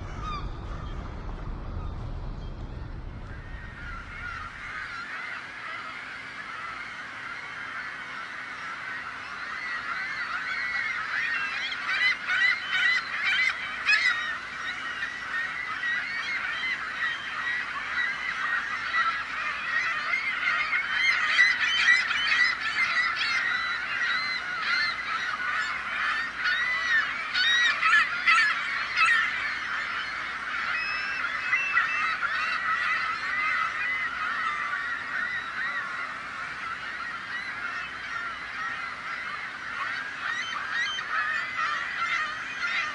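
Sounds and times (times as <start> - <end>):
flock of gulls calling: 0.0 - 42.9.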